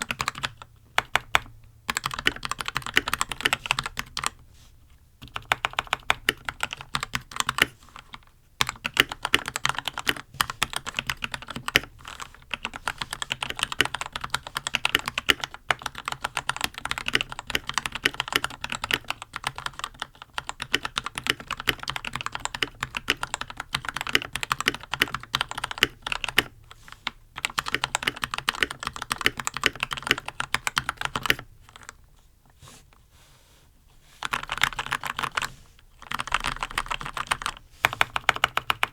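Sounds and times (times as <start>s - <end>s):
mechanical keyboard typing: 0.0s - 4.4s, 5.2s - 32.0s, 34.2s - 38.9s.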